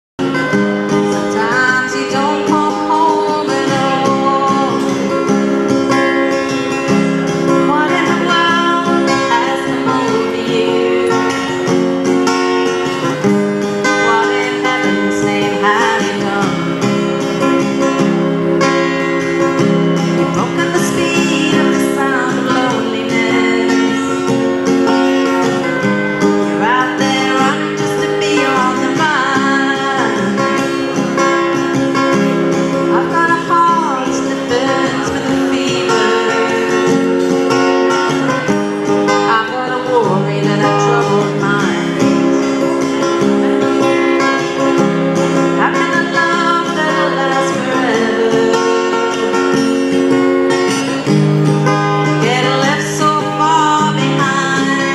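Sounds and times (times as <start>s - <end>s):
strummed acoustic guitar chords: 0.2s - 54.9s.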